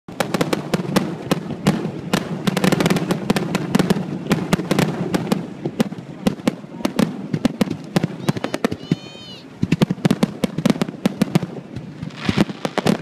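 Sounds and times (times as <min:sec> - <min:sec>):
fireworks bangs and crackling: 0:00.1 - 0:13.0.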